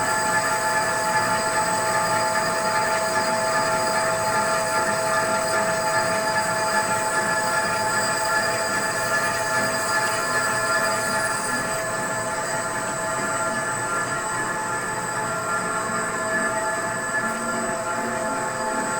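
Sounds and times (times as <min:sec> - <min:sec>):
lathe squealing whine: 0:00.0 - 0:18.9.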